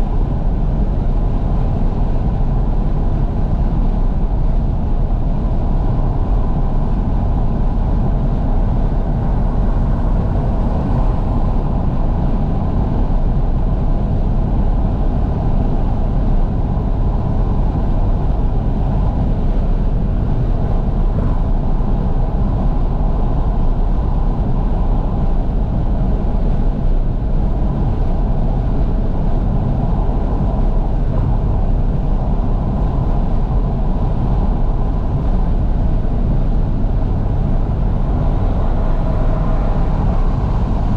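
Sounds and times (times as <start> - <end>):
engine and tyre rumble: 0.0 - 40.9
wind rushing through car windows: 0.0 - 40.9.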